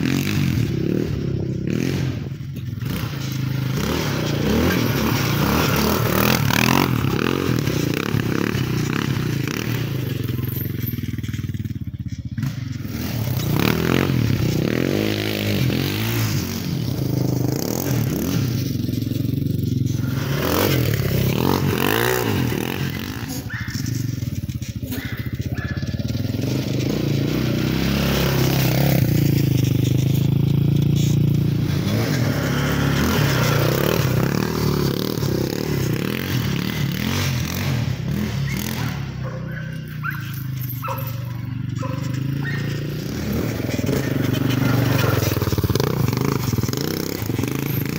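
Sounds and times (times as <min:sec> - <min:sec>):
quad engine revving: 0:00.0 - 0:47.9.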